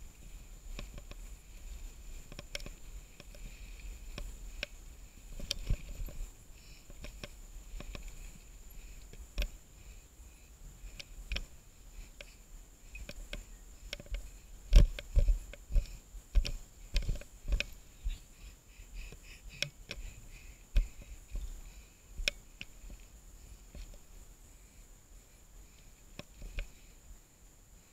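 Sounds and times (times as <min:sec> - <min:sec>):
high insect drone: 0:00.0 - 0:27.9.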